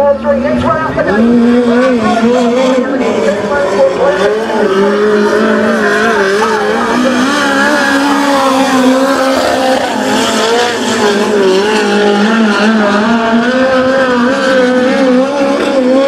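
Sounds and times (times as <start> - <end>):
race car engines at speed: 0.0 - 16.0.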